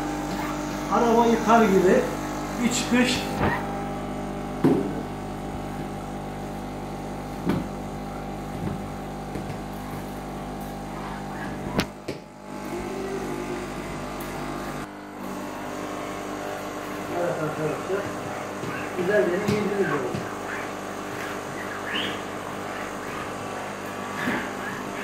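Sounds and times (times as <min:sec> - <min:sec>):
cleaning machine motor hum: 0:00.0 - 0:25.0.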